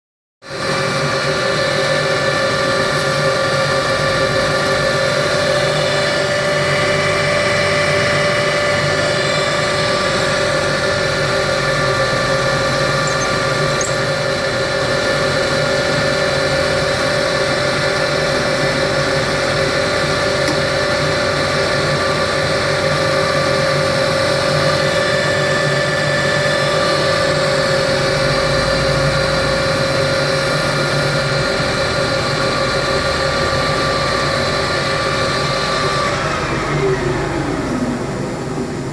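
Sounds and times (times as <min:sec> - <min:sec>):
metal lathe whine: 0:00.4 - 0:38.9.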